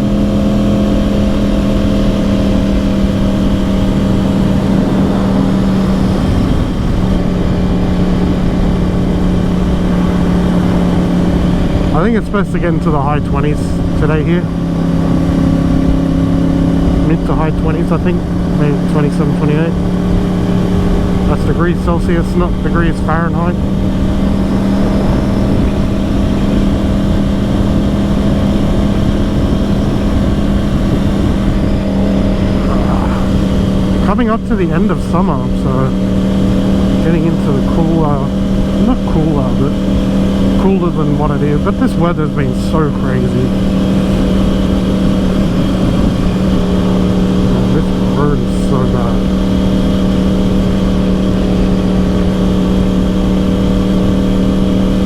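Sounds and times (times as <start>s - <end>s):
motorcycle engine at steady revs: 0.0s - 55.0s
road noise: 0.0s - 55.0s
wind noise: 0.0s - 55.0s.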